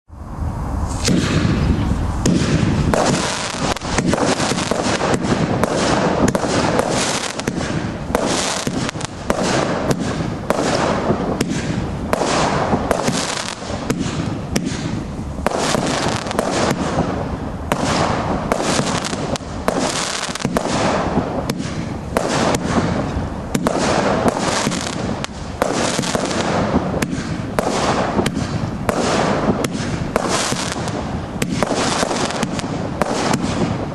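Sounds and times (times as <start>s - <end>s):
fireworks bangs and crackling: 0.1s - 33.9s
fireworks launch hiss: 0.1s - 33.9s.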